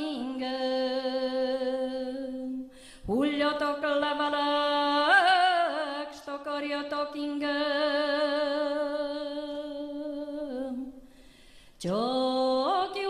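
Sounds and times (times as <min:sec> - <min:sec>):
woman singing unaccompanied: 0:00.0 - 0:11.0, 0:11.8 - 0:13.0.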